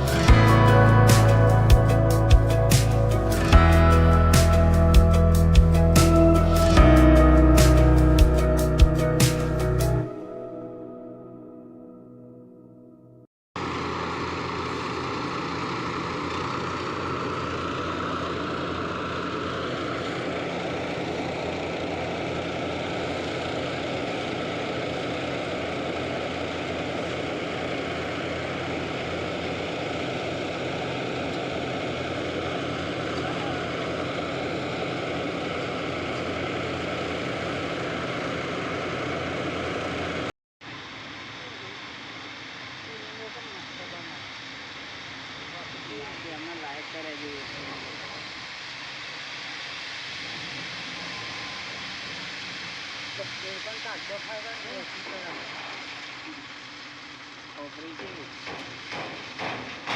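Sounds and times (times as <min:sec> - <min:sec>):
low engine hum: 0:00.0 - 0:10.6, 0:13.6 - 0:59.9
threshing machine droning: 0:00.0 - 0:10.6, 0:13.6 - 0:59.9.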